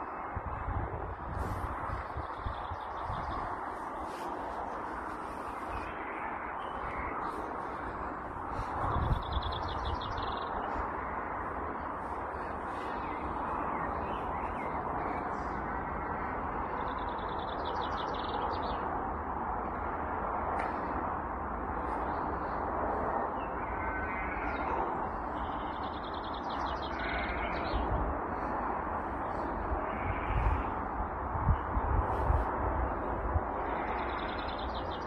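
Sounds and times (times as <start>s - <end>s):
birds chirping: 0.0s - 19.1s, 21.6s - 32.2s, 32.8s - 35.0s
steady outdoor rush: 0.0s - 35.0s.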